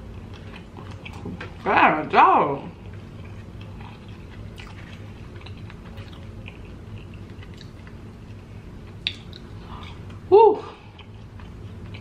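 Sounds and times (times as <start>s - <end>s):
person chewing fried food: 0.0s - 1.6s, 2.7s - 10.2s, 10.8s - 12.0s
low steady hum: 0.0s - 12.0s.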